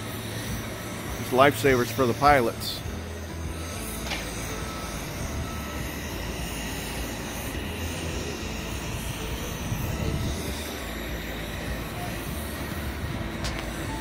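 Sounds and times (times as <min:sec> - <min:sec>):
machinery noise: 0:00.0 - 0:14.0
wind: 0:00.0 - 0:14.0.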